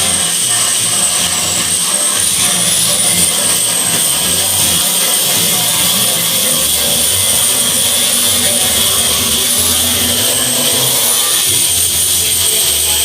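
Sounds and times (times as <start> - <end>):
electric power tool whining: 0.0 - 13.0.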